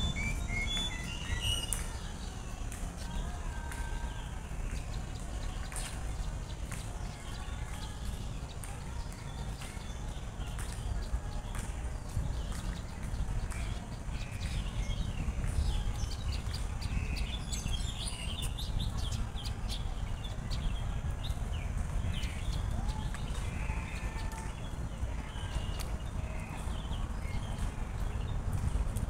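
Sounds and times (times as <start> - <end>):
small birds chirping: 0.0 - 29.0
steady low rumble: 0.0 - 29.0.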